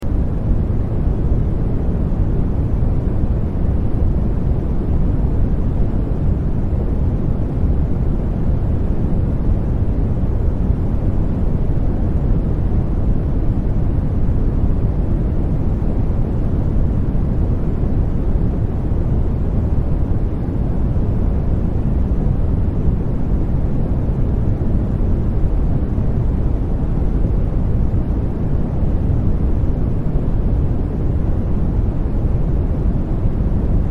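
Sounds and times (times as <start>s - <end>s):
deep rushing white noise: 0.0s - 33.9s.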